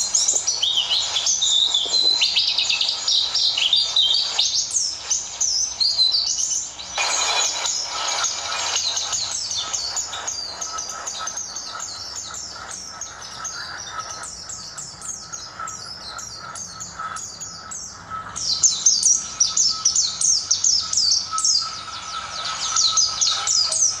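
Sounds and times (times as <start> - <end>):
bird twittering: 0.0 - 24.0.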